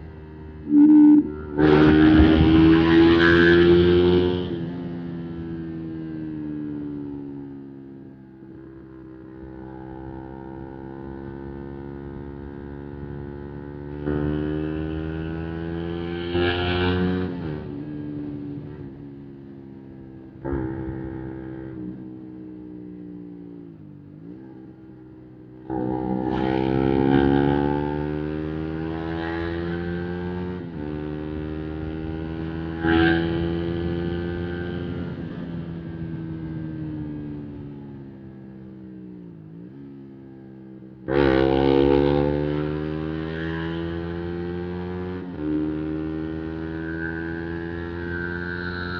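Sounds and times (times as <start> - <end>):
motorcycle engine revving: 0.0 - 7.2, 8.4 - 19.1, 20.4 - 22.4, 24.2 - 38.7, 39.5 - 48.9.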